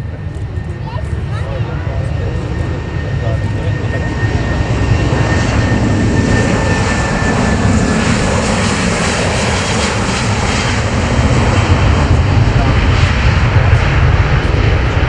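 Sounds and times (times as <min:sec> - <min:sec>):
jet engines roaring: 0:00.0 - 0:15.0
thin jet engine whine: 0:00.0 - 0:15.0.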